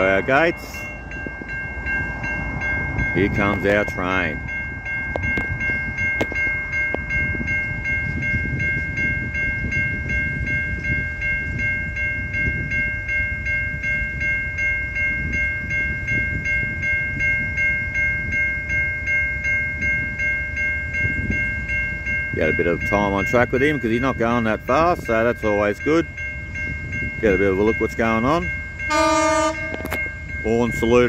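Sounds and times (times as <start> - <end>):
level crossing warning bell: 0.0 - 31.0.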